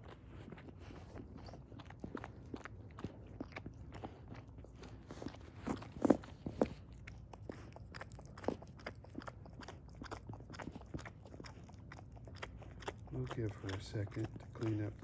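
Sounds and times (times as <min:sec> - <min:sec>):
dog licking with smacking sounds: 0:00.0 - 0:15.0.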